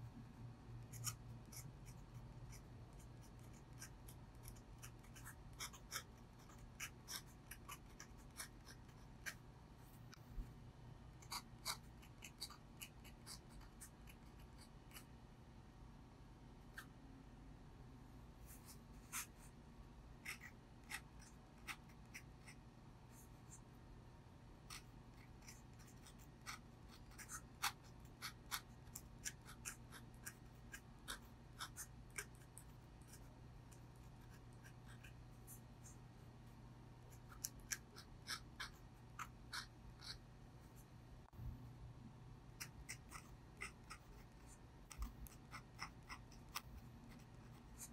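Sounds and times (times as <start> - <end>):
faint low hum: 0.0 - 47.9
pen nib scratching paper: 0.8 - 10.2, 11.2 - 15.1, 18.4 - 19.6, 20.2 - 23.7, 24.6 - 36.4, 37.1 - 40.9, 42.6 - 47.9.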